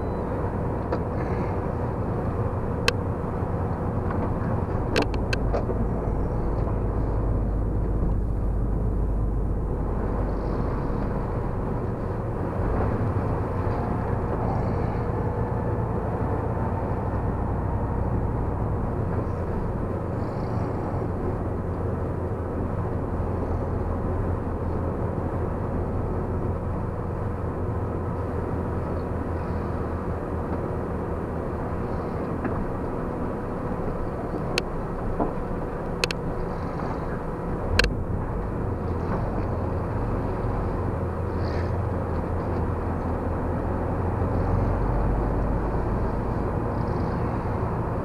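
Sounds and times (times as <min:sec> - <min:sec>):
truck engine and road rumble: 0:00.0 - 0:48.0.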